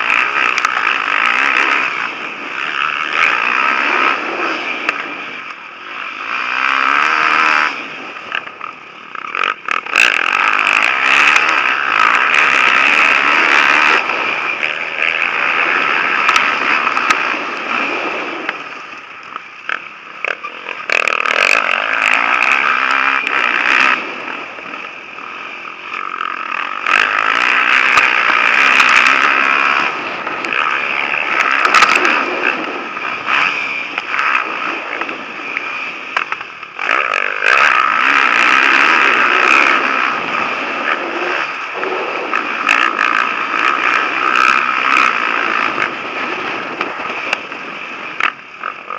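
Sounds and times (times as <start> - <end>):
motocross bikes revving past: 0.0 - 48.9.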